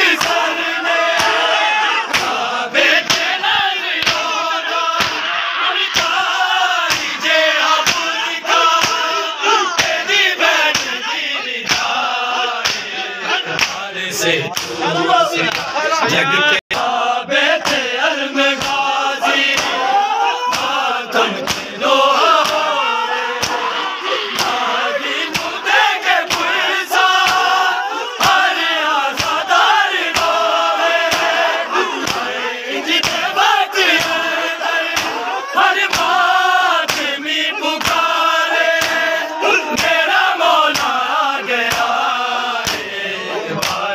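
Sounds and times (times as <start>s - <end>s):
men chanting a lament: 0.0s - 43.9s
hands slapping bare chests: 0.1s - 1.5s, 2.1s - 5.3s, 5.9s - 11.0s, 11.6s - 13.9s, 14.5s - 14.8s, 17.5s - 17.9s, 18.5s - 20.8s, 21.4s - 22.8s, 23.4s - 23.7s, 24.3s - 32.4s, 33.0s - 43.9s.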